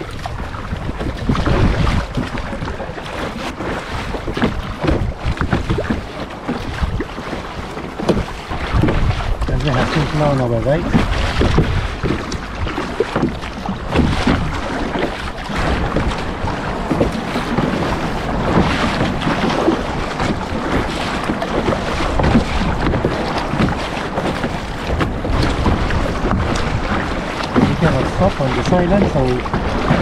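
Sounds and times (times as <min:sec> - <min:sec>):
water slapping against kayak: 0:00.0 - 0:30.0
wind buffeting microphone: 0:00.0 - 0:30.0.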